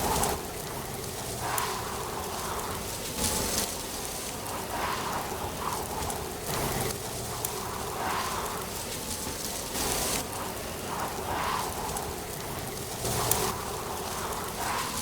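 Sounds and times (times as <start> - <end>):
wind rustling dry leaves: 0.0 - 15.0.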